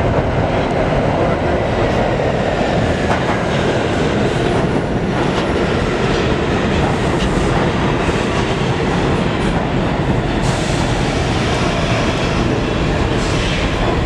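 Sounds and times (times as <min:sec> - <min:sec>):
subway train rumbling on rails: 0:00.0 - 0:14.0.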